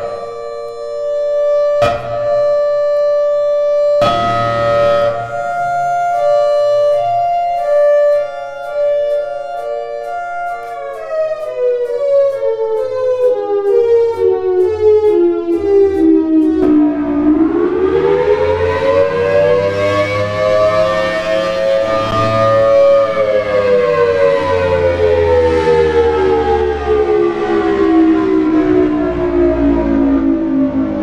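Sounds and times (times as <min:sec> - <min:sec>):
pulsed siren tone: 0:00.0 - 0:31.0.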